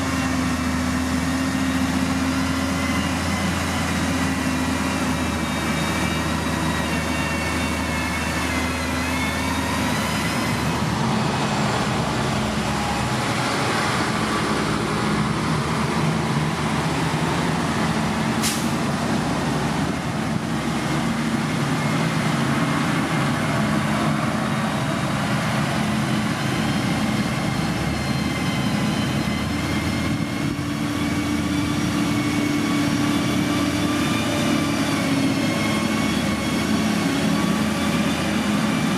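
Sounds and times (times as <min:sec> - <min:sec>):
diesel machinery engine: 0:00.0 - 0:38.9.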